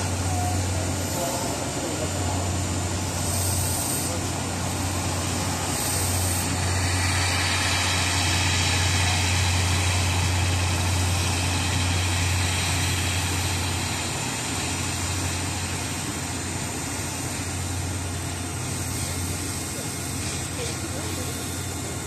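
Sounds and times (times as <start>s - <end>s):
diesel locomotive engine hum: 0.0s - 22.0s
train coaches rolling past: 0.0s - 22.0s.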